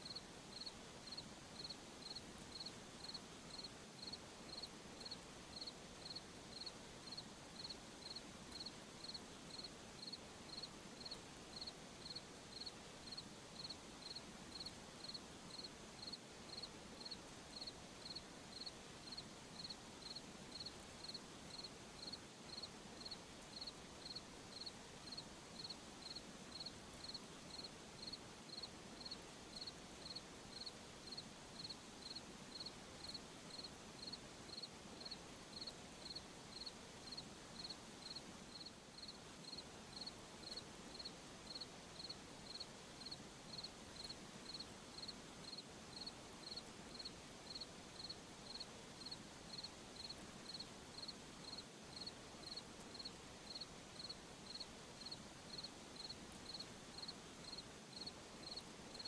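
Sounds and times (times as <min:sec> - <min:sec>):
cricket chirping: 0:00.0 - 0:59.0
faint hiss of night air: 0:00.0 - 0:59.0.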